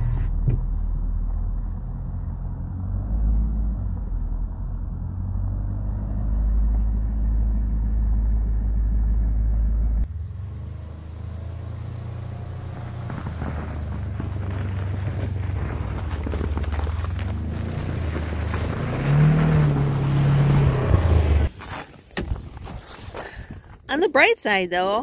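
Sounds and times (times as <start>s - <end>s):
utility vehicle engine rumble: 0.0s - 24.0s.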